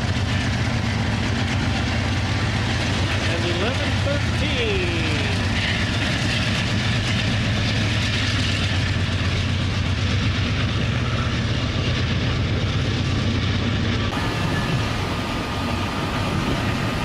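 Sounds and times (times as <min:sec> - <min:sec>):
locomotive engine drone: 0:00.0 - 0:17.0
rail and wheel noise: 0:00.0 - 0:17.0.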